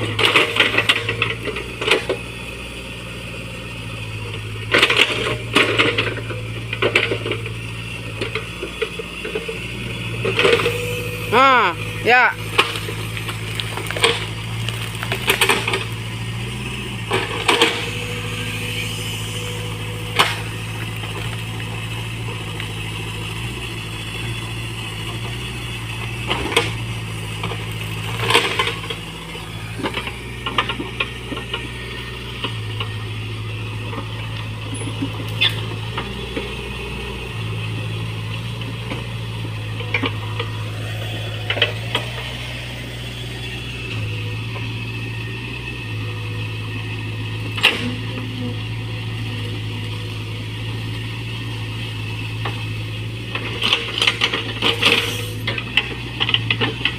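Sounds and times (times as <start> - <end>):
excavator engine running: 0.0 - 56.9.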